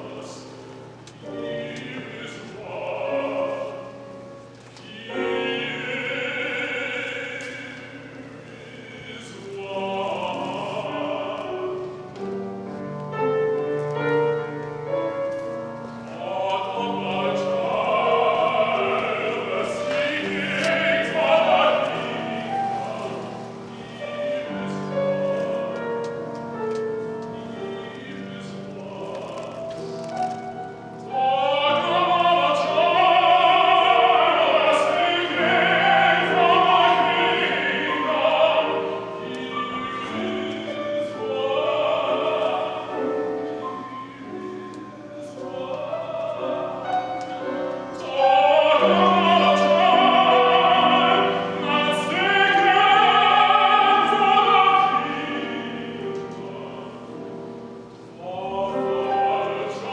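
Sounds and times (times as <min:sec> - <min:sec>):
grand piano accompaniment: 0:00.0 - 0:59.9
tenor singing classical style: 0:00.0 - 0:59.9.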